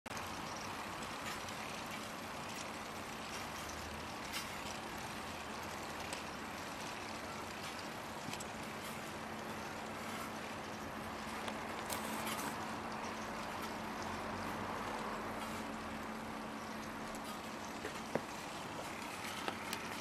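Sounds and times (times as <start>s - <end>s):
low motor hum: 0.1s - 20.0s
plastic gears whirring: 0.4s - 20.0s.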